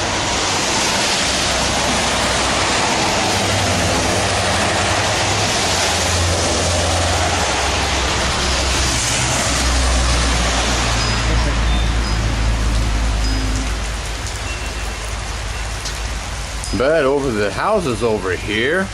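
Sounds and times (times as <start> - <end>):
tyre hiss on wet road: 0.0 - 16.6
heavy rain pouring: 0.0 - 18.9
low engine rumble: 0.0 - 18.9.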